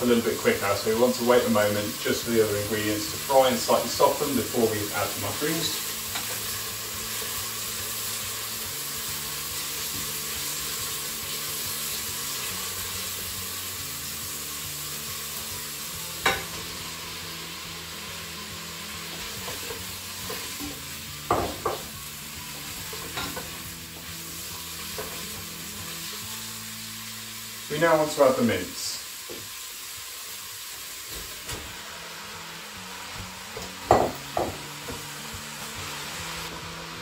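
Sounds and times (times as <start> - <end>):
vegetables sizzling in a pot: 0.0 - 37.0.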